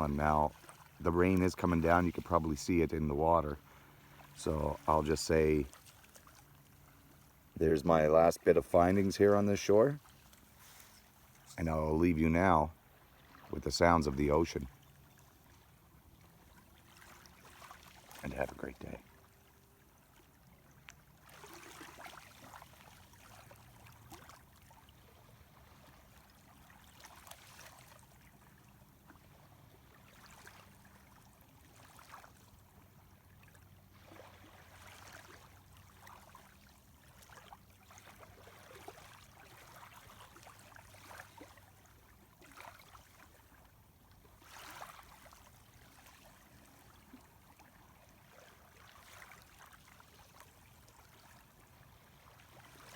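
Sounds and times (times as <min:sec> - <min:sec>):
water lapping on pebbly shore: 0:00.0 - 0:11.8, 0:14.7 - 0:52.9.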